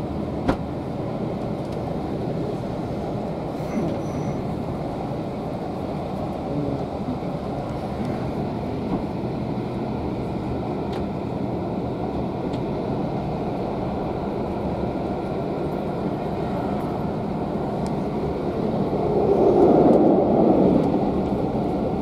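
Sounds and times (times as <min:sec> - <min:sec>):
train carriage rumbling on rails: 0:00.0 - 0:22.0.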